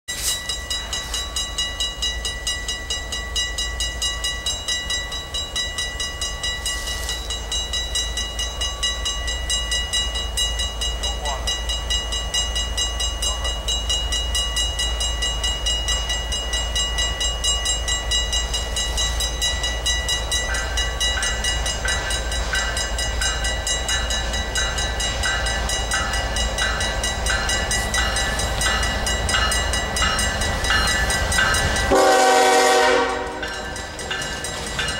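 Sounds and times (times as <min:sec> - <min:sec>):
approaching freight train: 0:00.1 - 0:34.9
crossing warning bell ringing: 0:00.1 - 0:34.9
slower bell ringing: 0:00.1 - 0:34.9.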